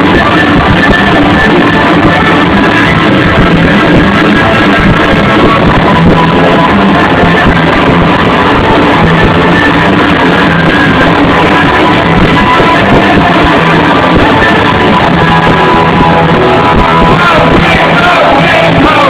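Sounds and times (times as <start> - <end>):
punk rock band playing: 0.0 - 19.0.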